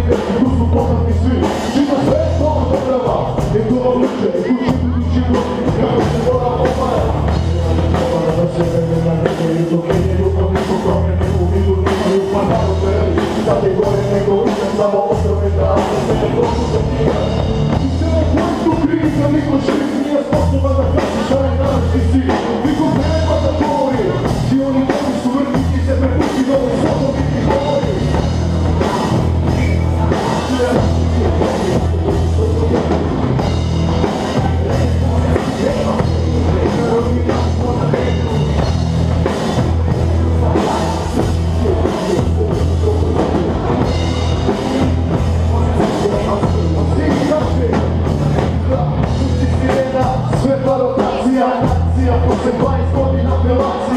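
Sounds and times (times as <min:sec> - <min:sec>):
rapped vocals: 0:00.0 - 0:53.9
rock band playing heavy beat: 0:00.0 - 0:53.9.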